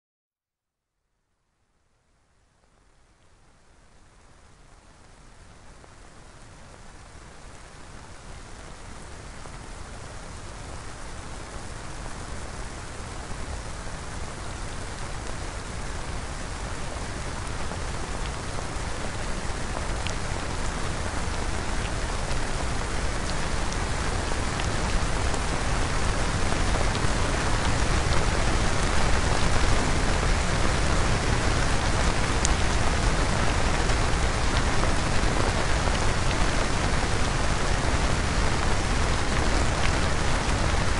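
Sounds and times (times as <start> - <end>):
hiss of falling rain: 2.0 - 40.9.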